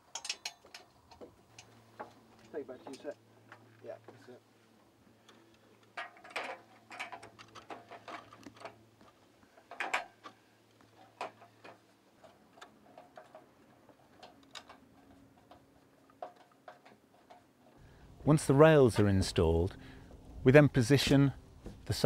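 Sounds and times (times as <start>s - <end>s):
metal rails clicking and knocking: 0.0s - 3.6s, 5.2s - 22.0s.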